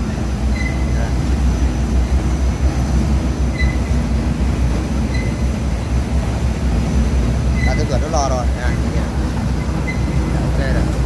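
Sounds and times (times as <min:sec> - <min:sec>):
heavy machinery rumble: 0:00.0 - 0:11.0.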